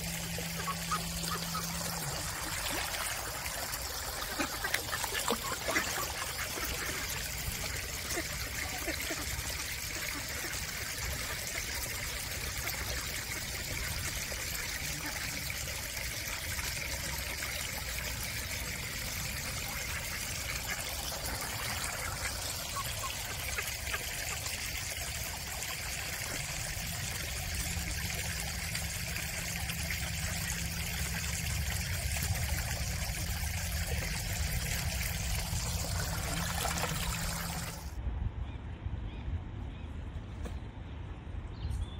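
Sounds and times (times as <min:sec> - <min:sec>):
stream trickling over rocks: 0:00.0 - 0:38.0.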